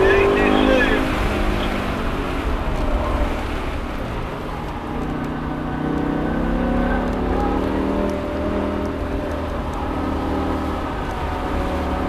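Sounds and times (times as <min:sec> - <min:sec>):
car engine revving inside cabin: 0:00.0 - 0:12.0.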